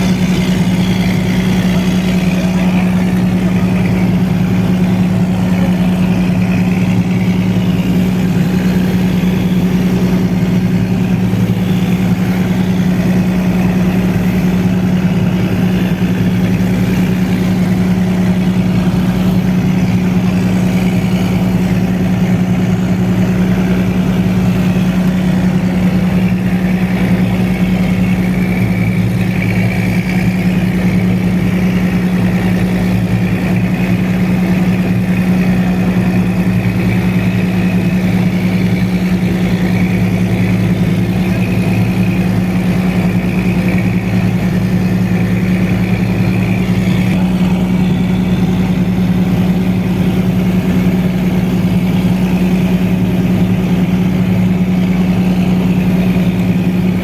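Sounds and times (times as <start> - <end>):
engine humming steadily: 0.0 - 57.0.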